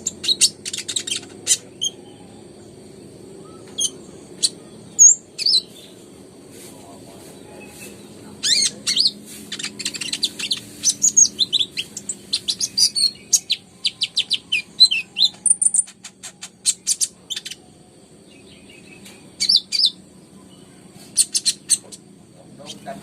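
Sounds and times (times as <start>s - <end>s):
bird chirping and trilling: 0.0s - 6.1s, 7.2s - 23.0s
faint low hum: 0.0s - 23.0s.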